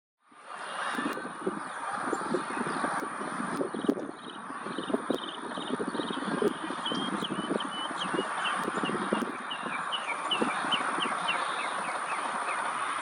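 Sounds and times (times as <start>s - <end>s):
songbird chirping: 0.9s - 13.0s.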